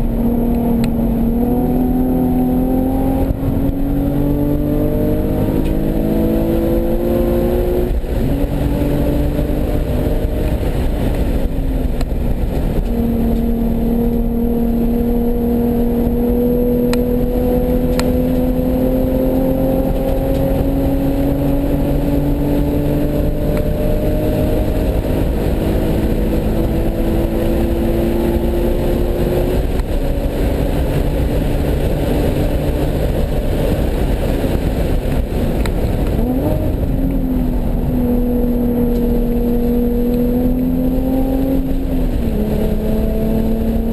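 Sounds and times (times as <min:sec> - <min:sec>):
car engine revving hard: 0:00.0 - 0:43.9
tyre and road noise: 0:00.0 - 0:43.9.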